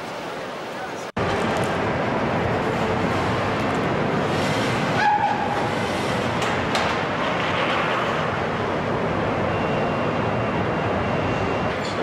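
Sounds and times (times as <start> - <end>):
machinery and conveyor noise: 0.0 - 12.0.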